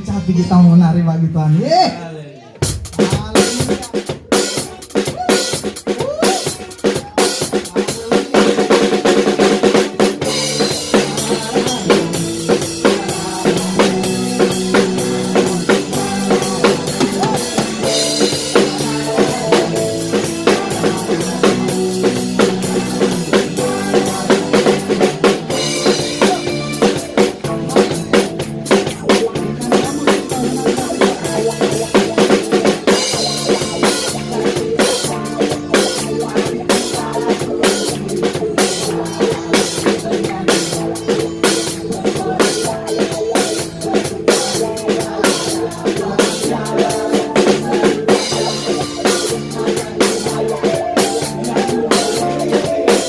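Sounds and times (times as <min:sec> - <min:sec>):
band playing chords and bass: 0:00.0 - 0:53.0
drum kit beat: 0:00.0 - 0:53.0.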